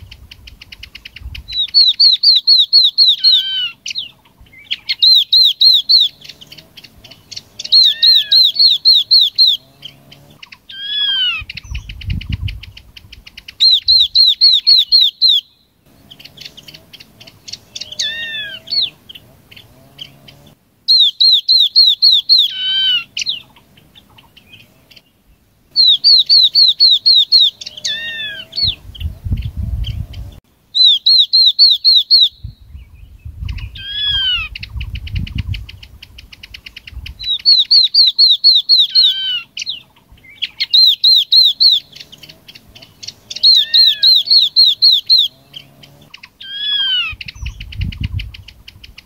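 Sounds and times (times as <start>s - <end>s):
bird song high rapid notes: 0.0s - 49.0s.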